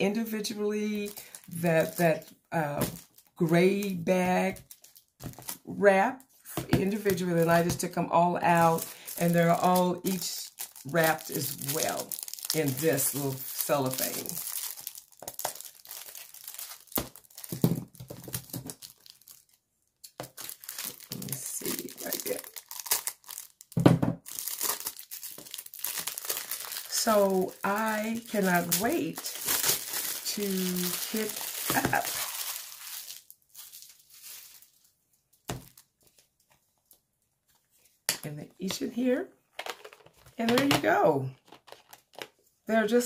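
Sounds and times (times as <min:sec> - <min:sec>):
cellophane crinkling and tearing: 0:00.8 - 0:06.4, 0:08.5 - 0:37.0, 0:41.4 - 0:42.4.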